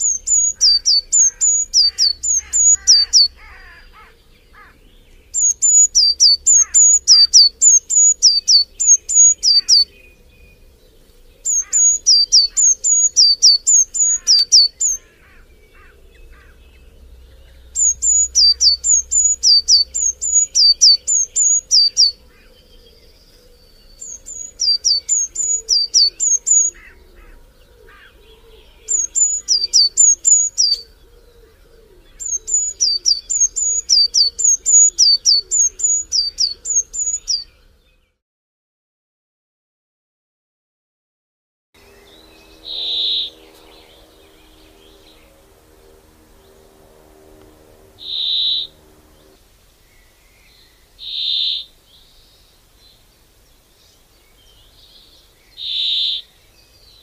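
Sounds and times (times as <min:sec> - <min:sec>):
faint bird chirps: 0:00.0 - 0:38.2, 0:41.8 - 0:45.5, 0:48.0 - 0:57.0.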